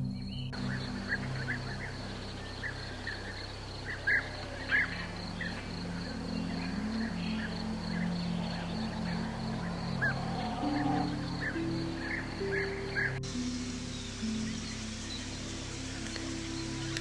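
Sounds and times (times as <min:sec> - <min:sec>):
birds calling: 0:00.0 - 0:17.0
low background music: 0:00.0 - 0:17.0.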